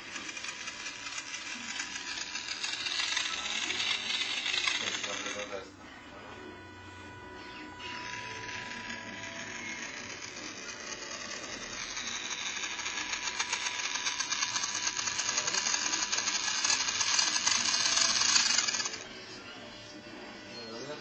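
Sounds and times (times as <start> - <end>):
small electric motor whirring: 0.0 - 21.0.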